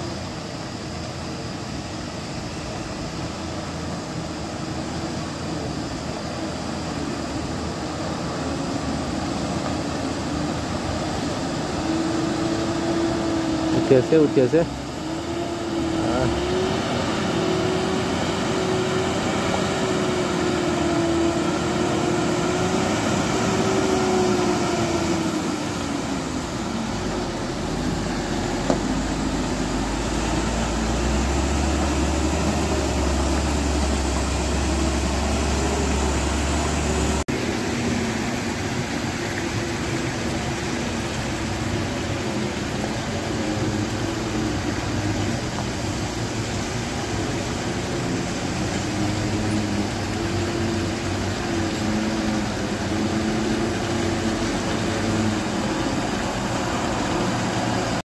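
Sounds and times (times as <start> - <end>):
diesel truck engines labouring: 0.0 - 58.0.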